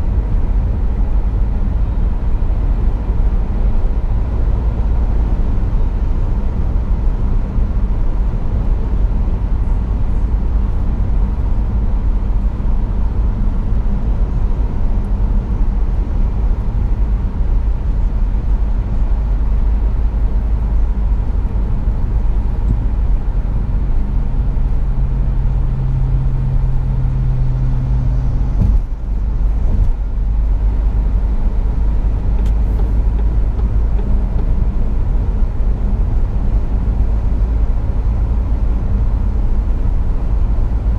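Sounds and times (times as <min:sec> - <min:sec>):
road and engine rumble in car: 0:00.0 - 0:40.9.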